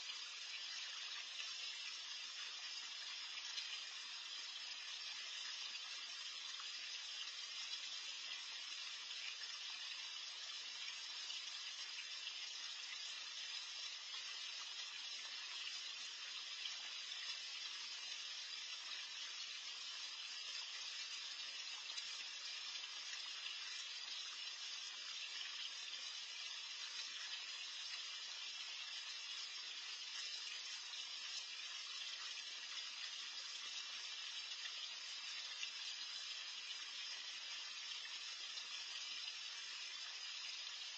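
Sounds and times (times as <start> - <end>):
water churning in pond: 0.0 - 40.9.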